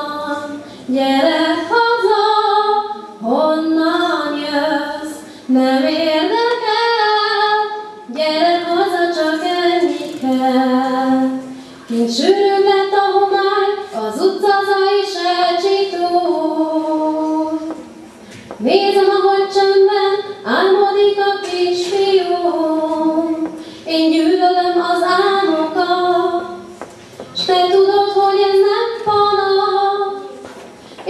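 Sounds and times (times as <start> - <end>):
young woman singing slow song: 0.0 - 17.8, 18.6 - 26.8, 27.4 - 30.4.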